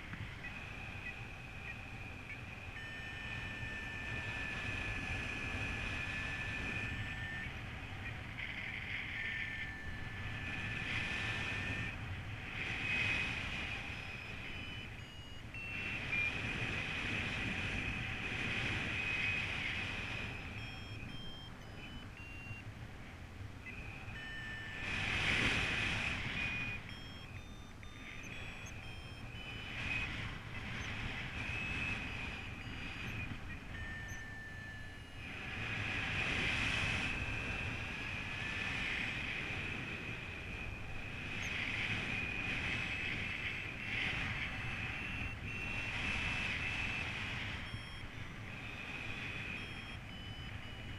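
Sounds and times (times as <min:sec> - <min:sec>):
variometer beeping: 0:00.0 - 0:50.9
wind rushing on microphone: 0:00.0 - 0:50.9.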